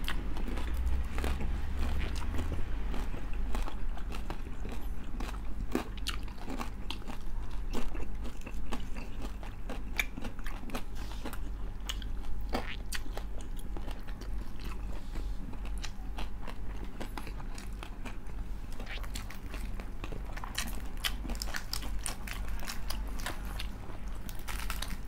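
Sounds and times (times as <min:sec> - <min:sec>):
crunchy chewing: 0:00.0 - 0:25.0.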